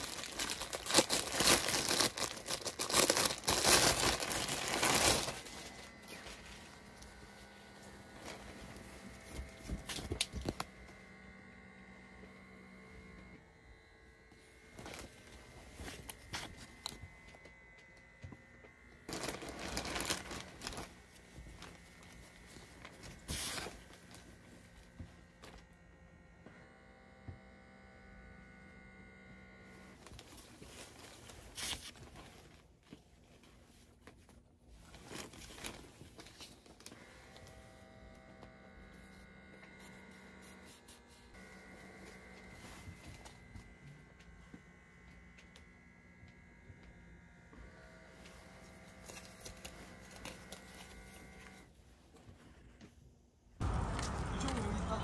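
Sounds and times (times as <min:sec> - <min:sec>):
rustling and crinkling: 0:00.0 - 0:11.3, 0:14.6 - 0:25.7, 0:29.8 - 0:55.0.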